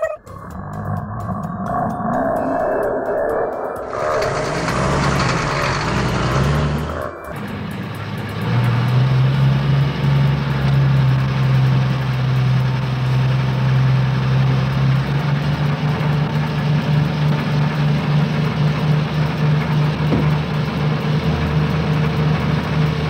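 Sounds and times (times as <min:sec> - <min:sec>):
truck engine idling: 0:00.0 - 0:02.7, 0:03.5 - 0:23.0.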